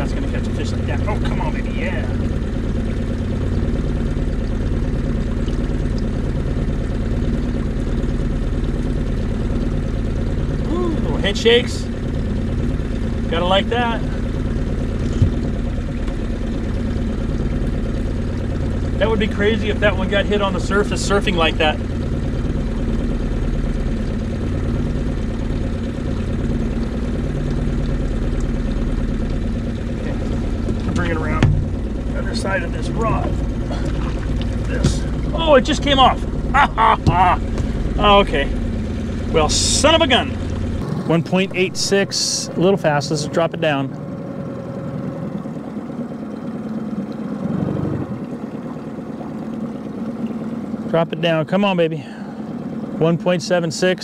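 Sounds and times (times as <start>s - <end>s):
outboard motor running: 0.0s - 54.0s.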